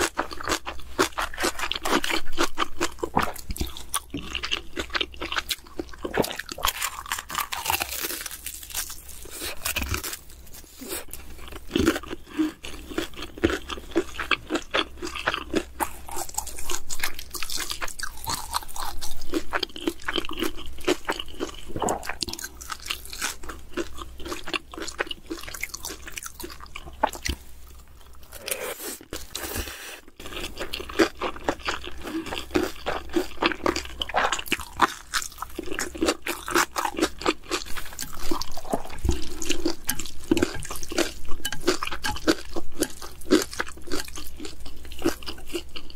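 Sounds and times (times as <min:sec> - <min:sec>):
person chewing and crunching food: 0:00.0 - 0:45.9.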